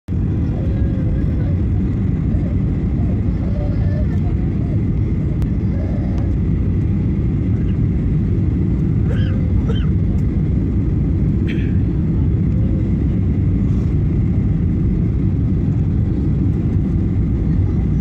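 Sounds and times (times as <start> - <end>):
faint voices: 0.1 - 18.0
jet airliner cabin rumble: 0.1 - 18.0.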